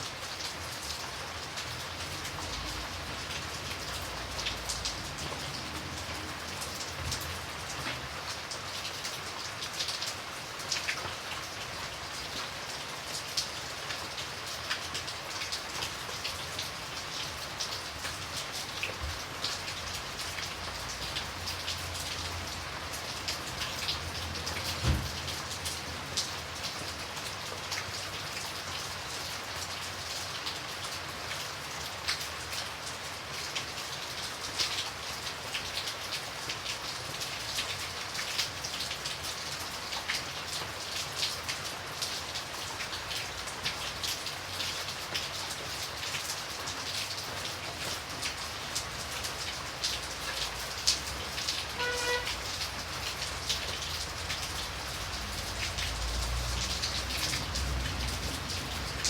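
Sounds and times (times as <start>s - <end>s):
steady rain falling: 0.0s - 59.0s
raindrops ticking on hard surface: 0.1s - 59.0s.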